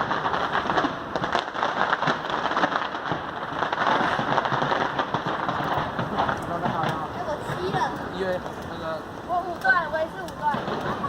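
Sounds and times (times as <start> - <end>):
distant fireworks crackling: 0.0 - 11.0.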